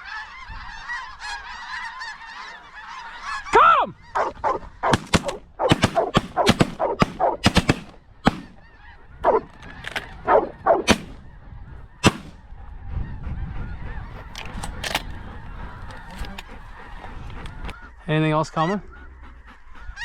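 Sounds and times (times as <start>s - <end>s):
low wind rumble on microphone: 0.0s - 2.1s, 3.2s - 18.0s
geese honking: 0.0s - 20.0s.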